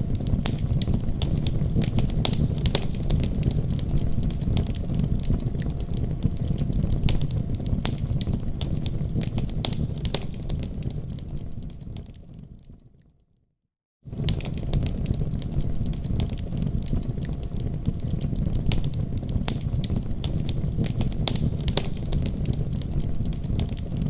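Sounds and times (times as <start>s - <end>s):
low rumble of flames: 0.0s - 13.0s, 14.1s - 24.0s
fire crackling and popping: 0.0s - 13.1s, 14.1s - 24.0s.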